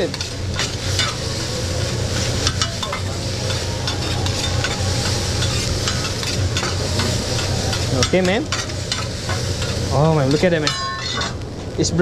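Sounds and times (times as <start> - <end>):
metal spatulas scraping: 0.0 - 11.4
spatulas clicking on steel: 0.0 - 11.5
rice sizzling on a griddle: 0.0 - 12.0.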